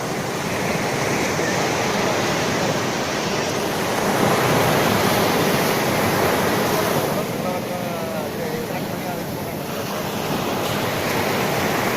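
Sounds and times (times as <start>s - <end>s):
sea waves breaking on shore: 0.0s - 11.9s.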